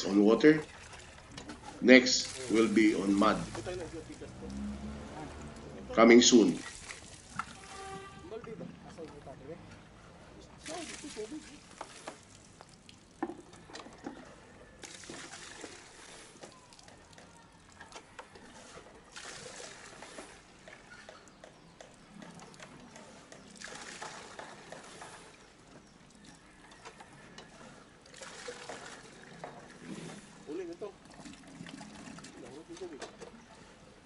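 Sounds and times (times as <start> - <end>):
water splashing from a pump: 0.0 - 34.0.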